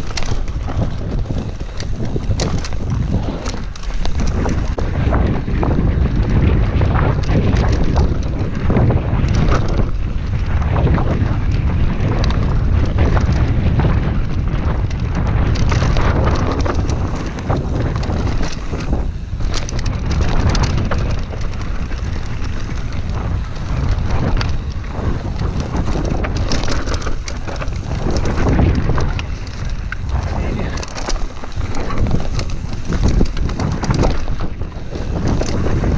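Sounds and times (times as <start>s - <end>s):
bike knocks and rattles: 0.0s - 35.9s
mountain bike rumble on dirt trail: 0.0s - 35.9s
wind buffeting microphone: 0.0s - 35.9s.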